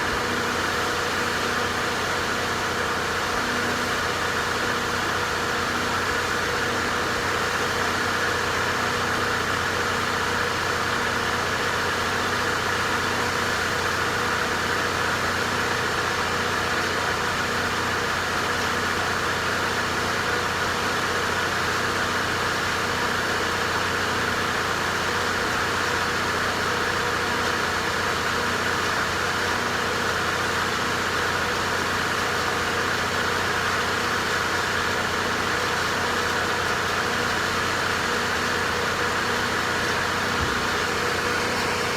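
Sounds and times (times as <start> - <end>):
generator running: 0.0 - 41.9.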